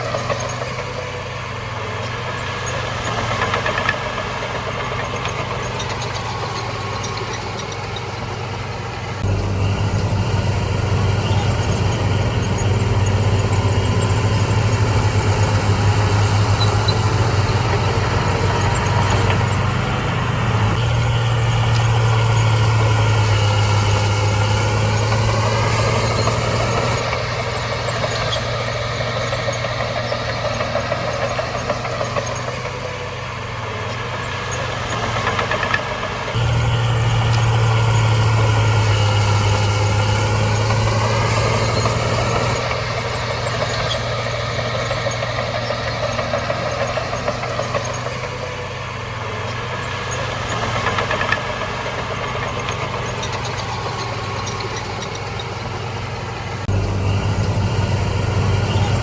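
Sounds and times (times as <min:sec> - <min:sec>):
heavy diesel engine running: 0:00.0 - 0:59.0
high mechanical whine: 0:02.0 - 0:59.0.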